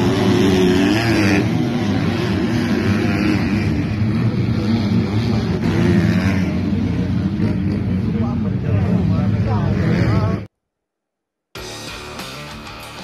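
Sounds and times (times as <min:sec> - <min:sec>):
motocross bike engines revving: 0:00.0 - 0:10.5.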